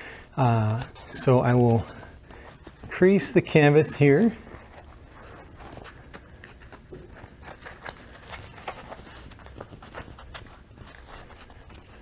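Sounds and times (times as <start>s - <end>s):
canvas rustling and creasing: 0.6s - 12.0s.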